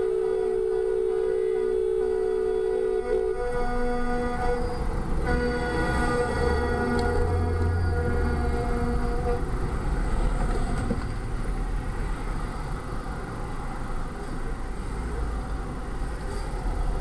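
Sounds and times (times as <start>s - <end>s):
car road and engine rumble: 0.0s - 17.0s
truck passing alongside: 0.0s - 17.0s.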